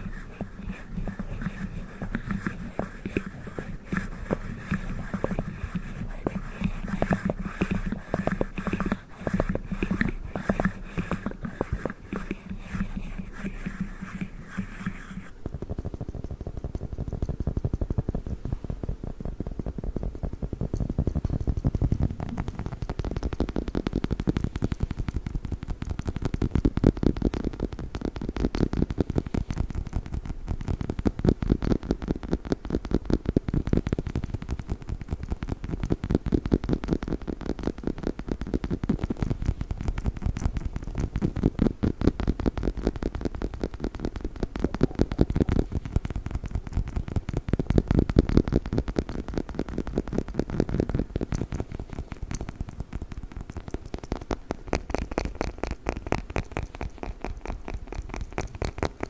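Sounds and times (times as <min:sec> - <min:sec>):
fast tapping on a dog toy: 0:00.0 - 0:59.0.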